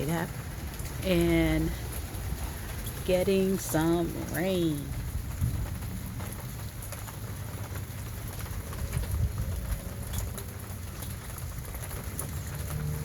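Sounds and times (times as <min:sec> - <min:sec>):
low rumble of rain: 0:00.0 - 0:13.0
raindrops ticking: 0:00.0 - 0:13.0.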